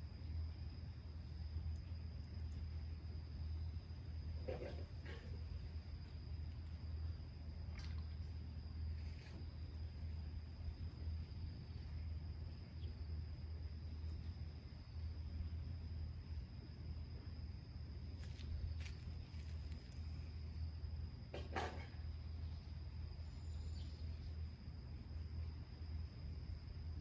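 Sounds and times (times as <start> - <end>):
cricket pulsing chirp: 0.0 - 27.0
cricket steady high trill: 0.0 - 27.0.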